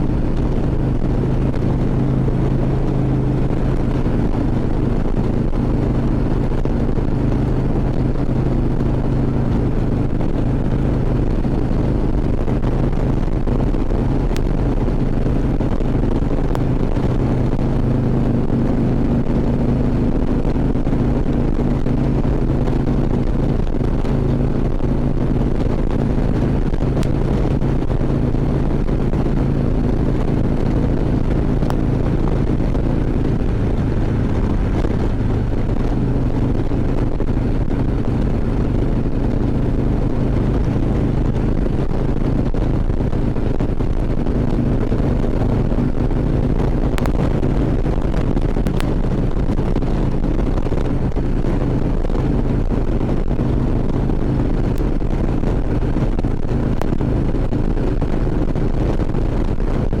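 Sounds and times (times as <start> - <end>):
motorcycle engine running: 0.0 - 60.0
wind rushing over microphone: 0.0 - 60.0.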